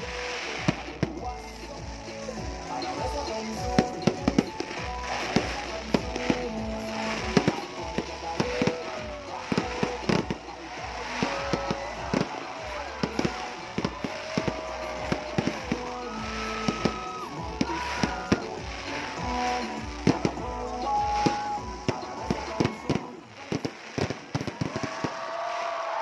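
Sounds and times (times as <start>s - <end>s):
voices: 0.0s - 25.0s
music: 0.0s - 25.6s
fireworks bangs and crackles: 0.0s - 26.0s.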